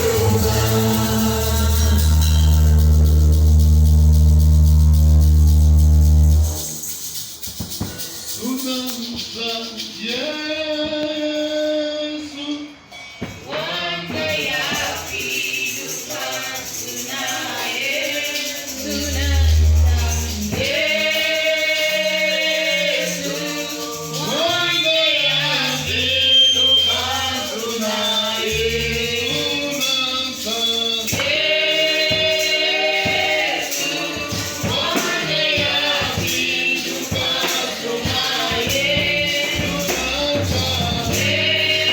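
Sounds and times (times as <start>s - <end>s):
group singing gospel: 0.0s - 6.8s, 13.4s - 41.9s
tambourine shaking: 0.0s - 41.9s.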